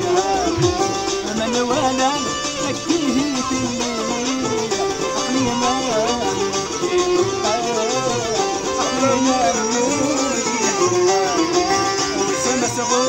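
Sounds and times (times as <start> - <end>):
man singing ornamented melody: 0.0 - 13.0
plucked lute: 0.0 - 13.0.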